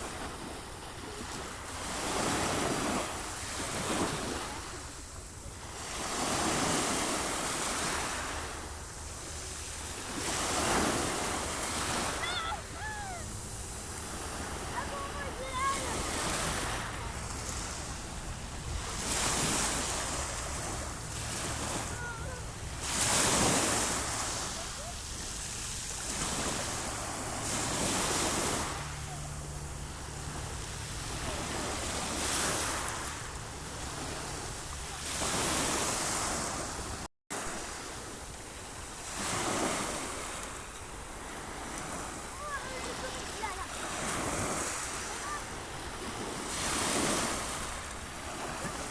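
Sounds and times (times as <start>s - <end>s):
sea waves breaking: 0.0s - 48.9s.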